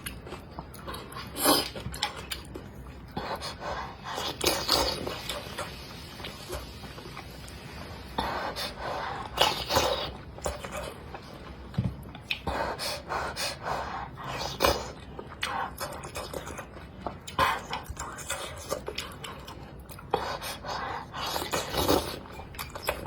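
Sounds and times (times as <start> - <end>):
person chewing: 0.0 - 23.0.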